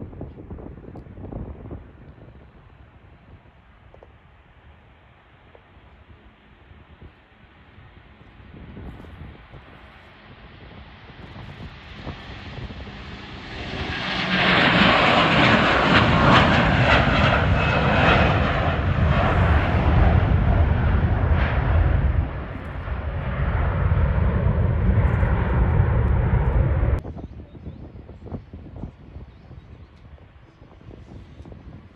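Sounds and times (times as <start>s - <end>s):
airliner engines passing: 0.0s - 31.9s.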